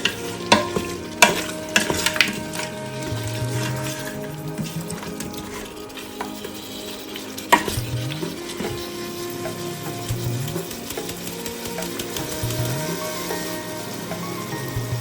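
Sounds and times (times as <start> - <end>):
utensil clinking against pan: 0.0 - 14.8
food sizzling in a pan: 0.0 - 15.0.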